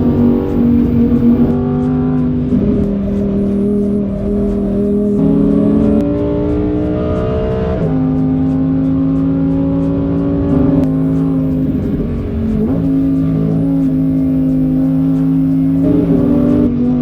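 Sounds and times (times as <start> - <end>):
car engine accelerating hard: 0.0 - 8.4, 10.4 - 16.9.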